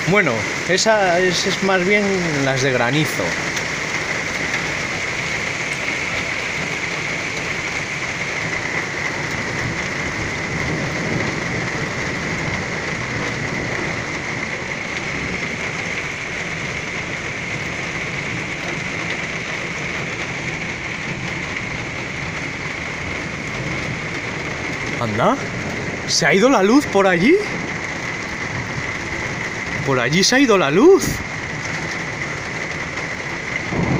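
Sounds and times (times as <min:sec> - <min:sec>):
low rumble of thunder: 0:00.0 - 0:33.9
torrential rain pouring: 0:00.0 - 0:33.9.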